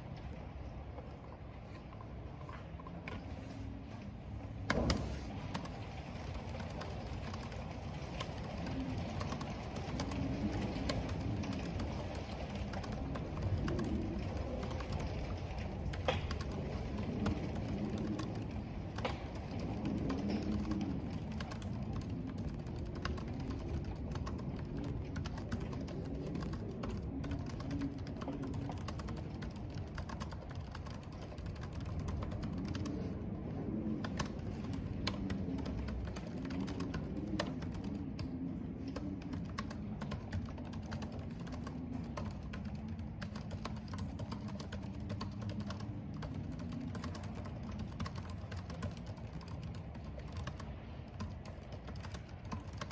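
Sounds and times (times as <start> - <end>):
wind and rain rumble: 0.0 - 52.9.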